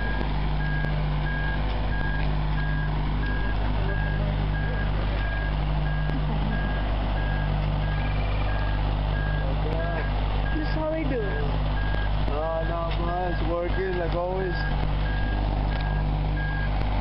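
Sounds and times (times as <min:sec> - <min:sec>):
warning alarm beeping: 0:00.0 - 0:16.8
engine running steadily: 0:00.0 - 0:17.0.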